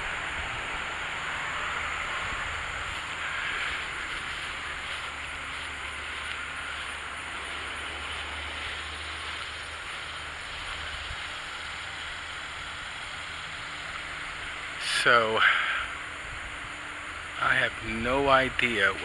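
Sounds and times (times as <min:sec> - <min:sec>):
even outdoor hiss: 0:00.0 - 0:19.0.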